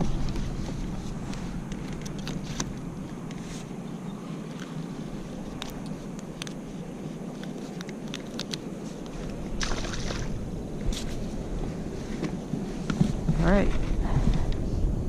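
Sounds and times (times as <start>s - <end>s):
low rumble of wind and water: 0.0s - 15.0s.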